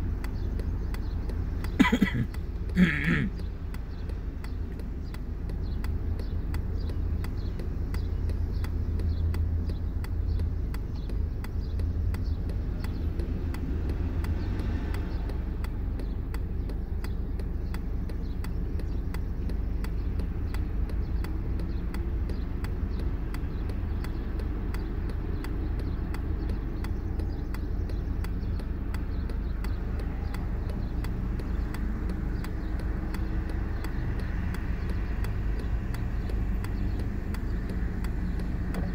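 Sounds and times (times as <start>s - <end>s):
engine and road rumble: 0.0s - 38.9s.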